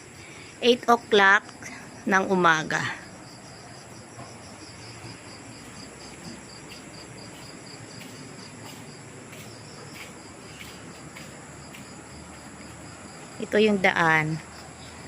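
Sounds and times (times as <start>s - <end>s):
crickets chirping: 0.0s - 15.0s
high insect drone: 0.0s - 15.0s.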